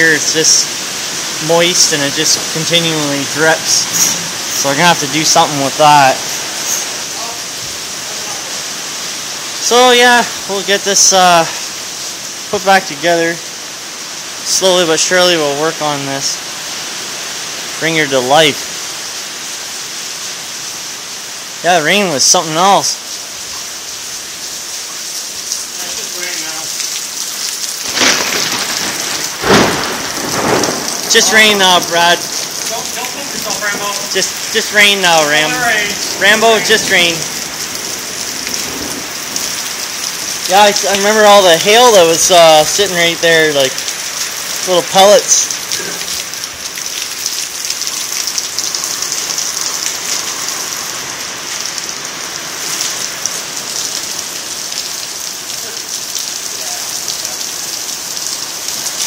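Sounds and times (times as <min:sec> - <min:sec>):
heavy rain on gravel: 0:00.0 - 0:59.0.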